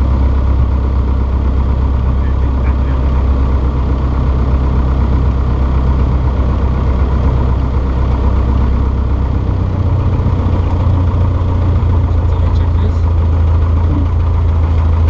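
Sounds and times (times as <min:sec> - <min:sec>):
small plane engine drone in cabin: 0:00.0 - 0:15.0.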